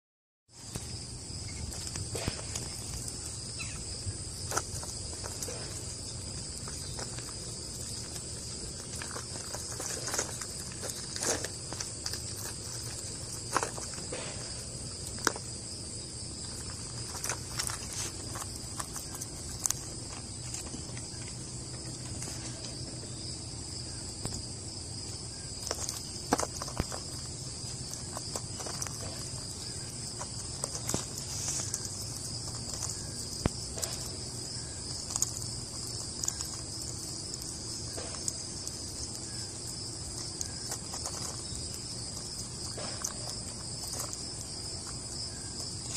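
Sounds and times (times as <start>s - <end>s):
high-pitched insect chorus: 0.5s - 45.9s.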